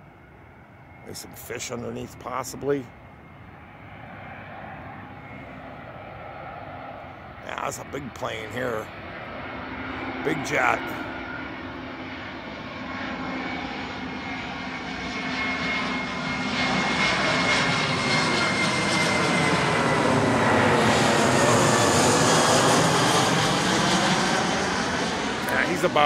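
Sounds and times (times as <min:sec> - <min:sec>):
high jet whine falling in pitch: 0:00.0 - 0:26.0
jetliner engine noise overhead: 0:00.0 - 0:26.0.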